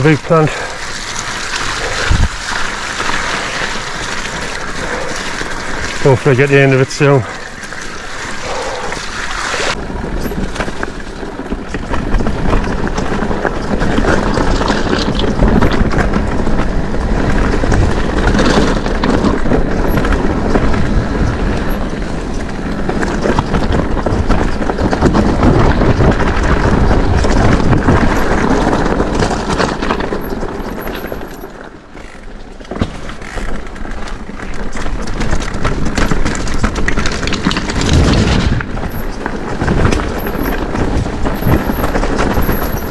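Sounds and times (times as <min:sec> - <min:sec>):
bike rattling: 0:00.0 - 0:42.9
bike tyre and ride noise: 0:00.0 - 0:42.9.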